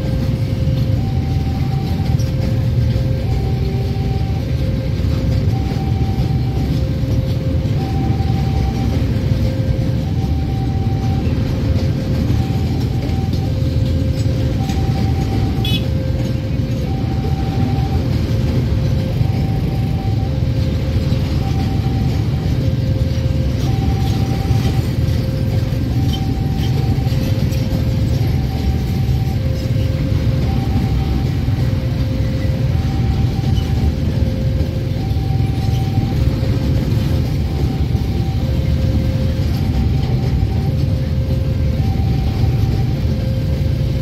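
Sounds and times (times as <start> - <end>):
freight train wheels rumbling: 0.0 - 44.0
level-crossing warning bell: 0.0 - 44.0.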